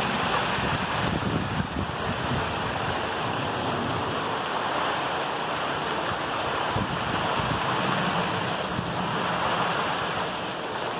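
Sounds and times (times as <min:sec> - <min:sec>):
heavy rain falling: 0:00.0 - 0:10.9.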